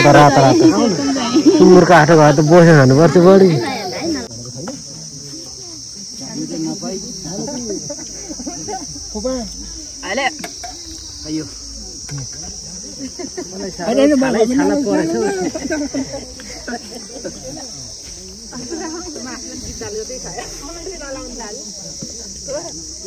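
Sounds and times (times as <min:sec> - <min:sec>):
chattering voices: 0:00.0 - 0:23.0
high-pitched insect chorus: 0:00.0 - 0:23.0.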